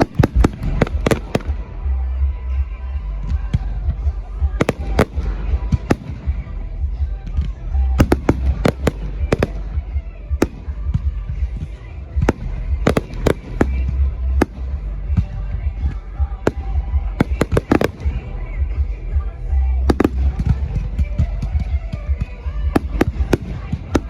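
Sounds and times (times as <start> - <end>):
fireworks bangs: 0.0 - 1.9, 4.4 - 6.5, 7.3 - 19.0, 19.8 - 24.0
show music: 0.0 - 24.0.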